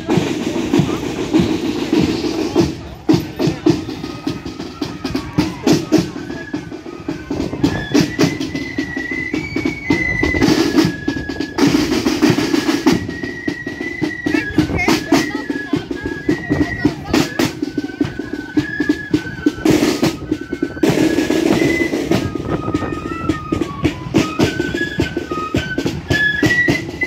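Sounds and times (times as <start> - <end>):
snare drums playing march: 0.0 - 27.0
high held melody: 0.1 - 27.0.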